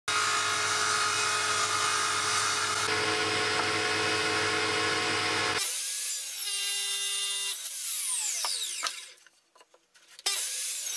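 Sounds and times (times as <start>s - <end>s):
woodworking power tool whine: 0.1s - 9.2s.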